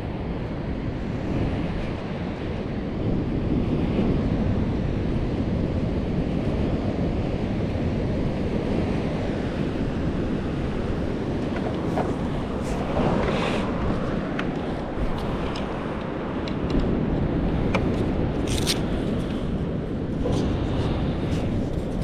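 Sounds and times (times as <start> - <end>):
waves breaking and washing: 0.0 - 22.0
wind buffeting microphone: 0.0 - 22.0.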